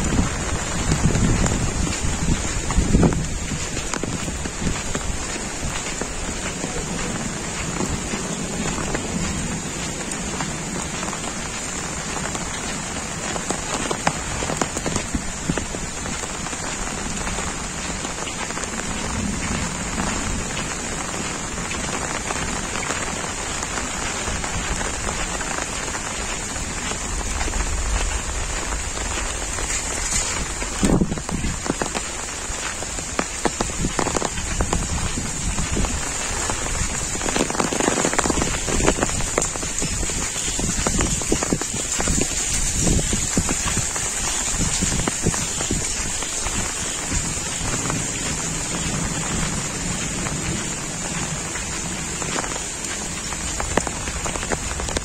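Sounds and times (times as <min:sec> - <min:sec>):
heavy rain on leaves and pavement: 0:00.0 - 0:55.0.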